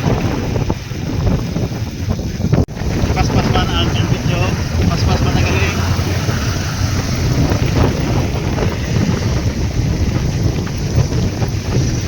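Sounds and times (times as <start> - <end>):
diesel truck engine rumbling: 0.0 - 12.0
wind buffeting microphone: 0.0 - 12.0.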